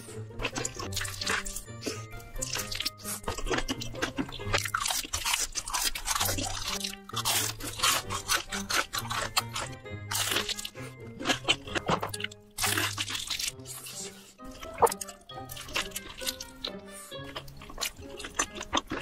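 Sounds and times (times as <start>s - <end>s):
background music: 0.0s - 19.0s
crunching and chewing burger: 0.0s - 19.0s.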